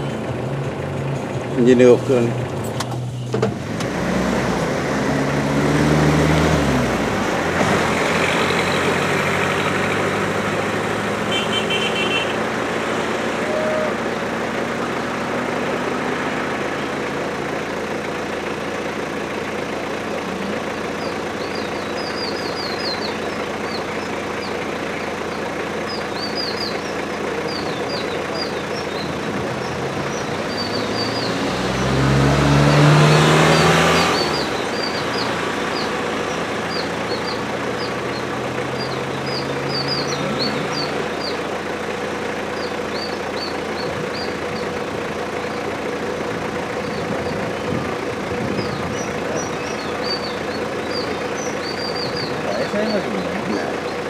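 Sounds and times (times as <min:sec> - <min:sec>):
vehicle passing by: 0:00.0 - 0:17.8, 0:26.0 - 0:41.7, 0:42.3 - 0:54.0
vehicle engine idling: 0:00.0 - 0:54.0.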